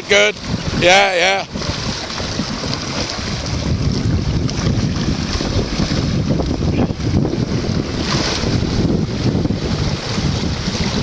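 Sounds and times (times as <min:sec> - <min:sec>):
rushing churning water: 0:00.0 - 0:11.0
wind buffeting microphone: 0:00.0 - 0:11.0.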